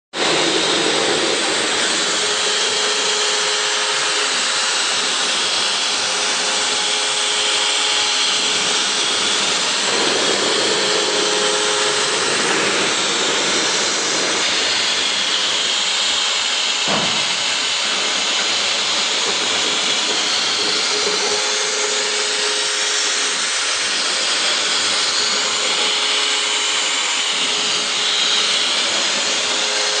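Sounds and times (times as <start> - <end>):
milling machine cutting: 0.2 - 30.0.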